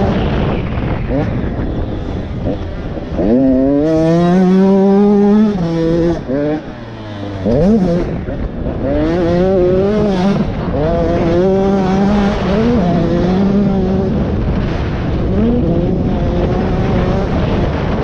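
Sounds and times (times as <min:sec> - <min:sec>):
motocross bike engine revving: 0:00.0 - 0:18.0
wind noise on microphone: 0:00.0 - 0:18.0.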